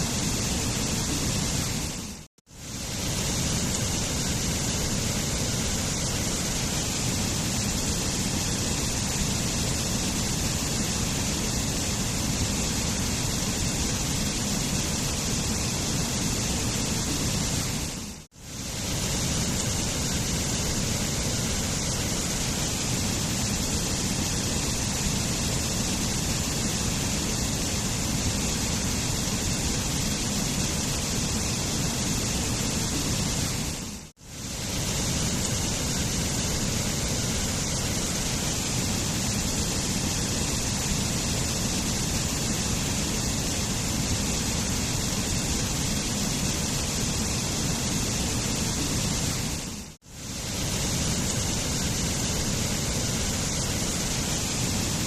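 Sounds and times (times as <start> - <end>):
waterfall rushing: 2.7 - 55.0.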